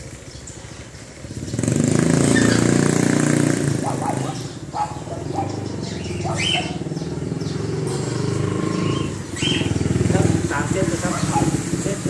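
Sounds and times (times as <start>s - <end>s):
bird chirping: 0.1s - 2.8s, 3.8s - 11.6s.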